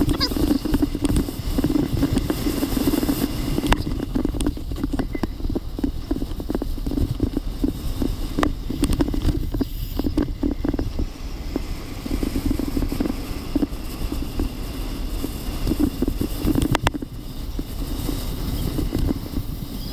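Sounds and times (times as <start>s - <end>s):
sled knocking and rattling: 0.0s - 19.9s
sled runners scraping on snow: 0.0s - 19.9s.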